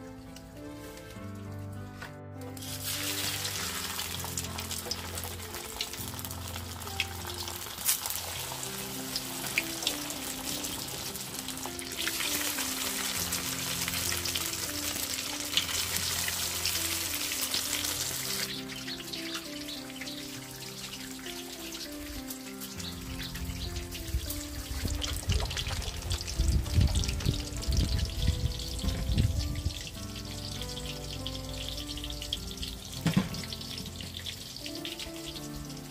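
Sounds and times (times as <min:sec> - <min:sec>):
food deep-frying in hot oil: 0:02.6 - 0:35.9.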